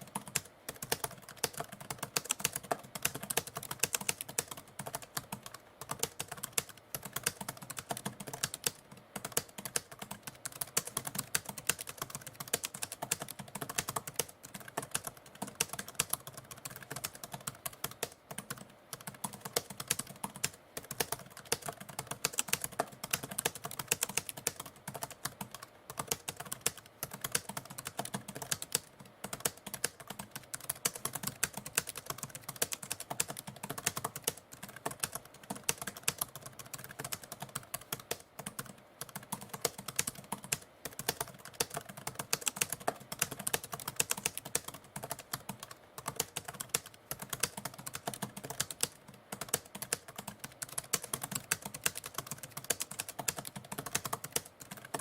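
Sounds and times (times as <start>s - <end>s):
typewriter typing: 0.0s - 55.0s.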